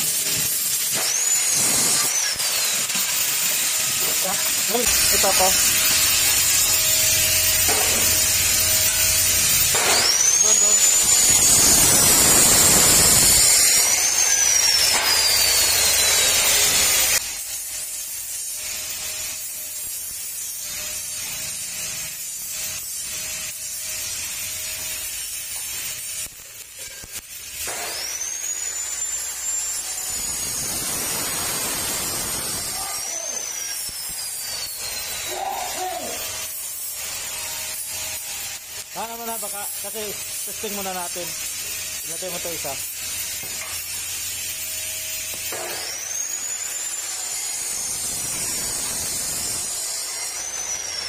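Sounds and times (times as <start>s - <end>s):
power tool motor whine: 0.0s - 51.0s
welding crackling hiss: 0.0s - 51.0s.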